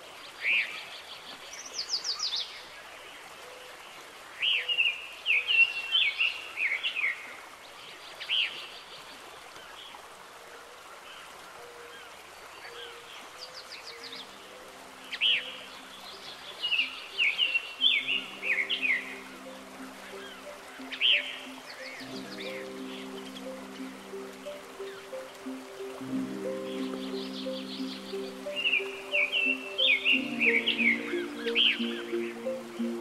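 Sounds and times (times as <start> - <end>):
background hiss: 0.0 - 33.0
songbird singing: 0.2 - 10.0, 10.8 - 33.0.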